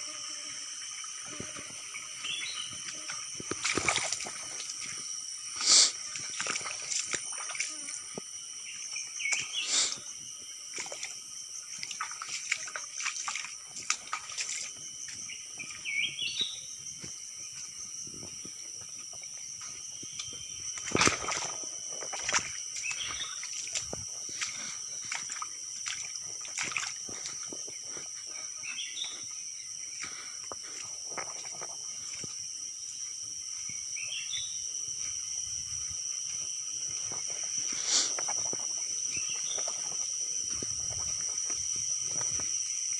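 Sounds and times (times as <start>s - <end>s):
high insect drone: 0.0s - 42.9s
footsteps on stony stream bed: 1.0s - 42.9s.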